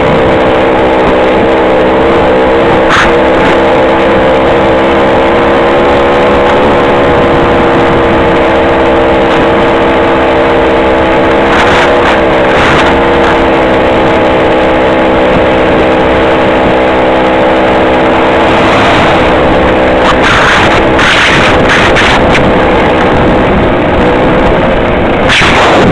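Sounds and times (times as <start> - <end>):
two-stroke engine running: 0.0 - 25.9
wind gusts on microphone: 0.0 - 25.9.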